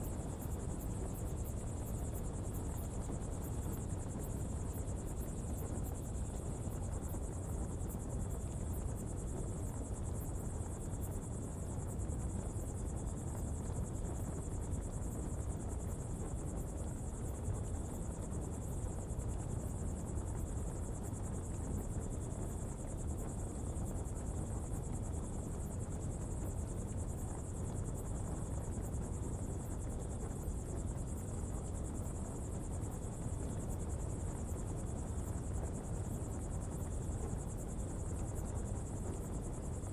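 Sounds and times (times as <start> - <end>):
insects trilling: 0.0 - 39.9
low fire rumble: 0.0 - 39.9.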